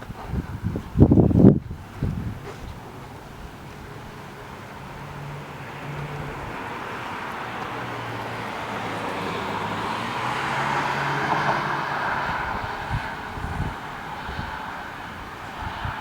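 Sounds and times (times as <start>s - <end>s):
vehicle passing: 2.0s - 16.0s.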